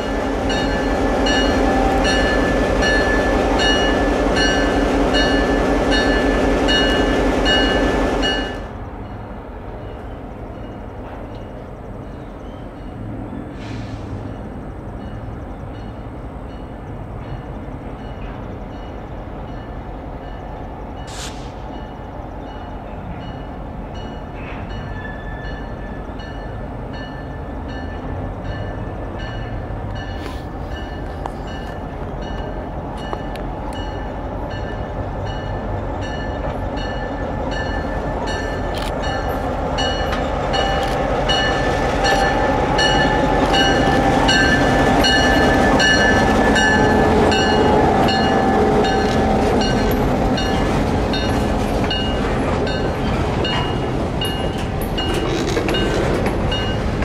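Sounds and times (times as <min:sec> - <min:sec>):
locomotive bell ringing: 0:00.0 - 0:13.1, 0:21.7 - 0:57.0
diesel locomotive engine rumble: 0:00.0 - 0:57.0.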